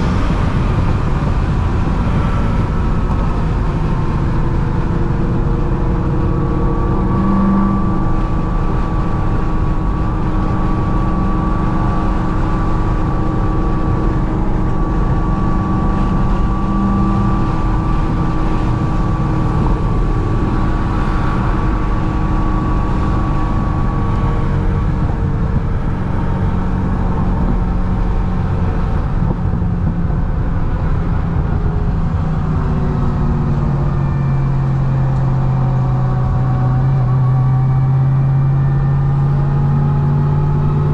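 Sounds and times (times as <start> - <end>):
car engine drone: 0.0 - 40.9
road noise: 0.0 - 40.9.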